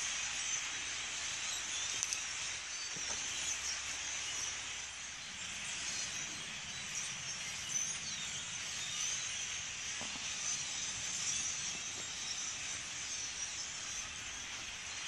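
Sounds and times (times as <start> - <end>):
starlings chattering: 0.0 - 15.0.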